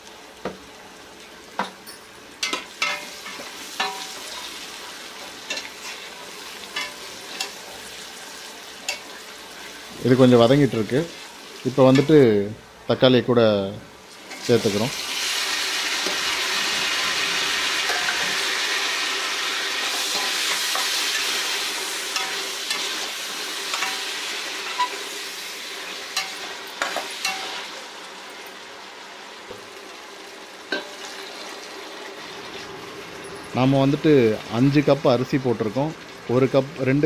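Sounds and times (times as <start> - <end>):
vegetables sizzling in hot oil: 0.0 - 12.4, 13.9 - 35.1.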